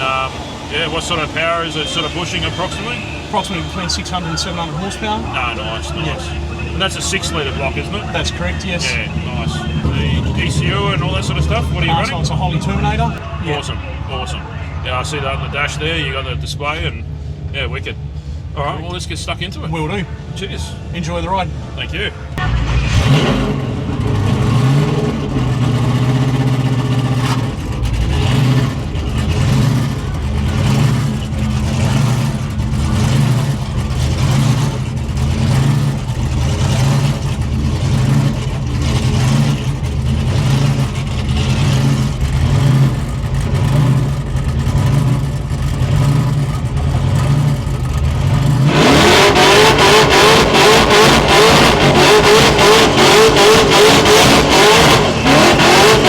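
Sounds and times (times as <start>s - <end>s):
engine revving hard: 0.0s - 16.9s, 22.4s - 56.0s
engine lumpy idle: 0.0s - 23.0s, 23.7s - 48.7s.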